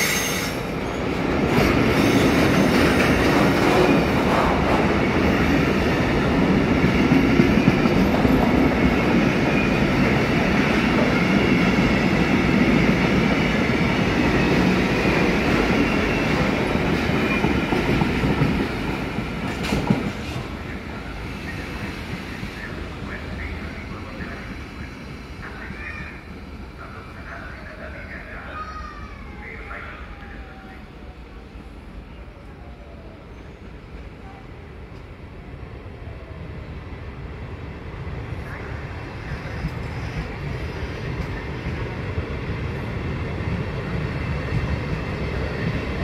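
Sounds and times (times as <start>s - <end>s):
freight train wheels rumbling on rails: 0.0s - 46.0s.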